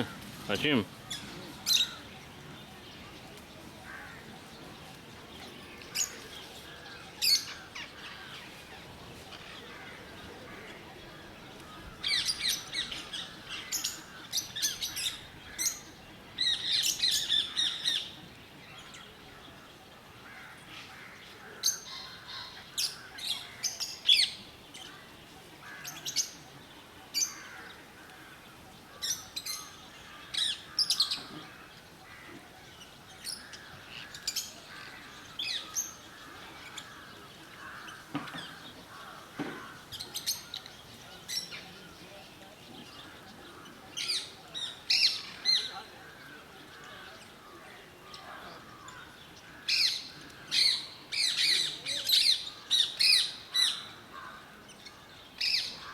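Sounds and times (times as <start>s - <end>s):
lovebirds chirping: 0.0s - 55.9s.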